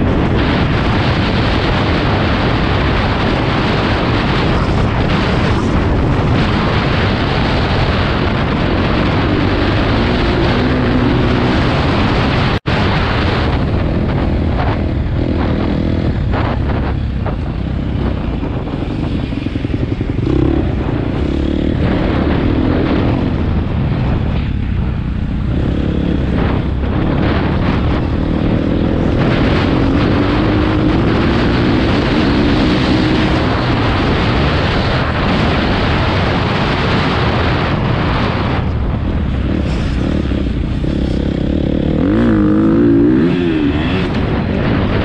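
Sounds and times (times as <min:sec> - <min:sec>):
motocross bike engine revving: 0:00.0 - 0:23.8, 0:25.4 - 0:38.5, 0:39.2 - 0:45.0.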